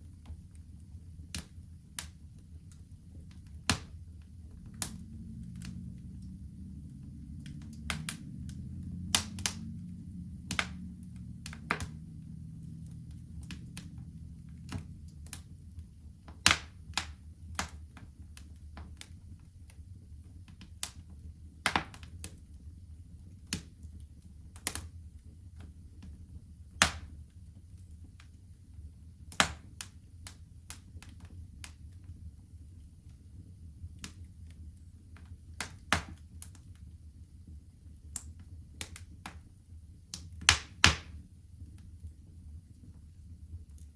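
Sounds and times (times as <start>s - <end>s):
fire popping: 0.0s - 39.5s, 40.1s - 43.9s
rumble of flames: 0.0s - 43.9s.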